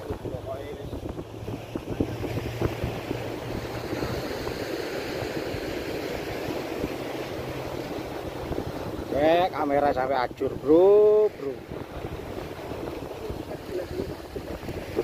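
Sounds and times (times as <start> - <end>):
waves breaking on rocks: 0.0 - 15.0
wind on microphone: 0.0 - 15.0.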